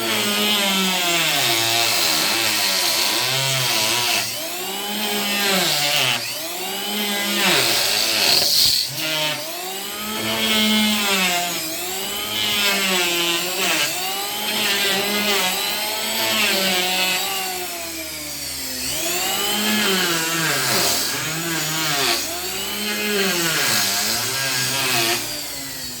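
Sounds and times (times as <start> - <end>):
power planer cutting wood: 0.0 - 26.0.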